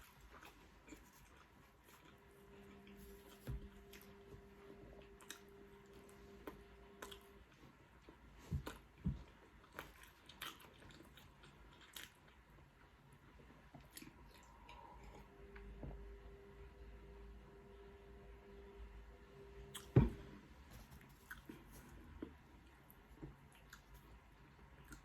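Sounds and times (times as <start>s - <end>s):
chewing and crunching: 0.0s - 15.4s, 19.7s - 20.1s, 20.7s - 25.0s.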